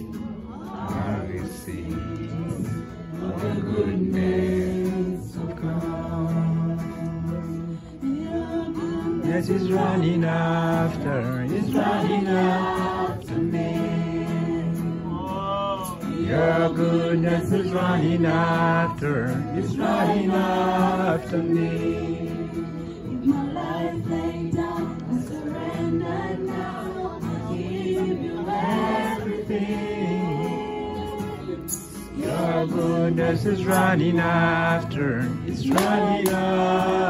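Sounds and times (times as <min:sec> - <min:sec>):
people singing worship song: 0:00.0 - 0:37.0.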